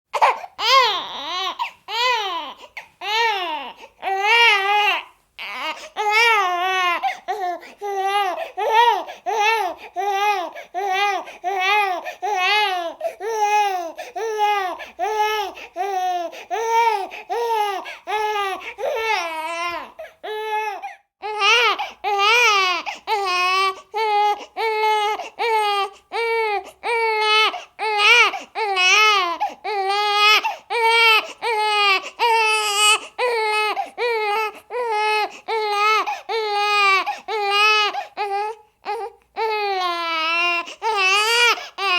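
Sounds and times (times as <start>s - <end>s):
baby crying: 0.1s - 41.9s.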